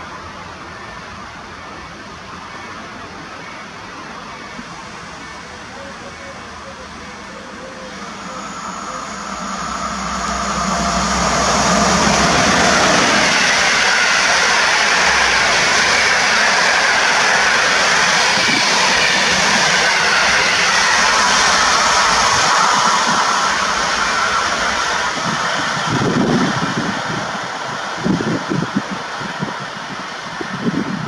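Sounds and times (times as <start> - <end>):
train rushing past: 0.0 - 31.0.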